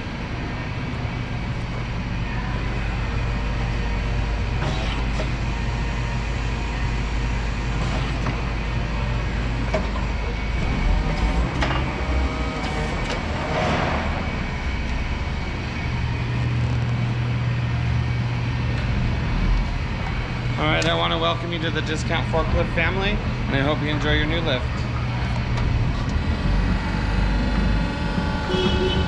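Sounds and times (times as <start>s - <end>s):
electric forklift motor hum: 0.0s - 29.0s.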